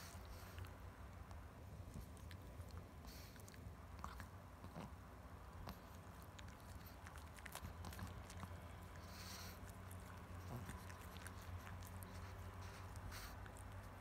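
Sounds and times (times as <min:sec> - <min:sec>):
dog chewing a treat: 0:00.0 - 0:14.0.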